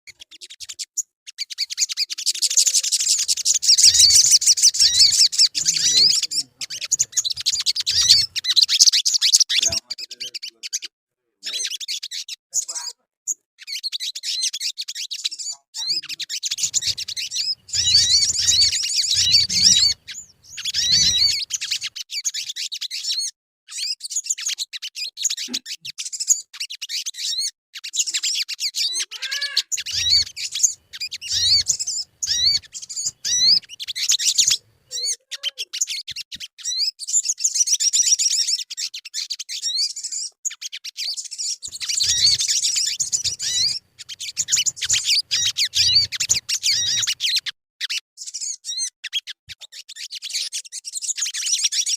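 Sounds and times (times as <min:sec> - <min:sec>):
bird twittering chatter: 0:00.1 - 0:51.9.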